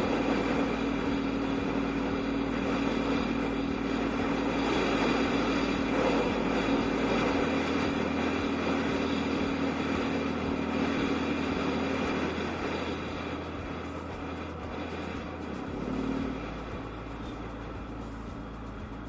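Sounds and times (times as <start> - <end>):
scooter engine cruising: 0.0 - 19.0.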